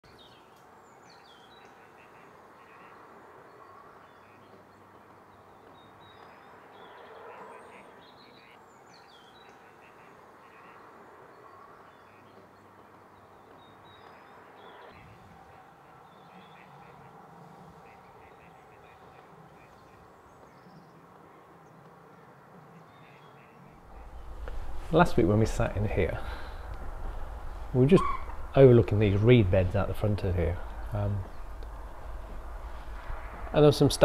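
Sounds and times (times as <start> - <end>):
faint birdsong: 0.0 - 34.0
steady outdoor hiss: 0.1 - 34.0.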